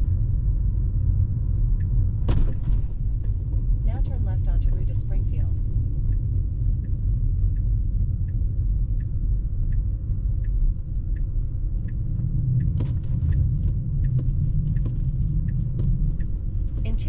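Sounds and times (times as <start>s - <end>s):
road and tyre rumble: 0.0s - 17.0s
turn signal ticking: 0.0s - 17.0s
sharp irregular clicks: 1.8s - 17.0s.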